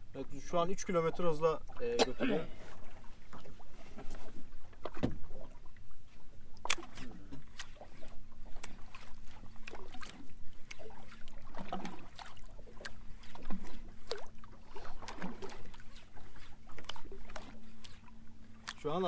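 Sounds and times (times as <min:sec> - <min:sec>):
faint steady hum: 0:00.0 - 0:19.0
water splashing against boat hull: 0:00.2 - 0:19.0.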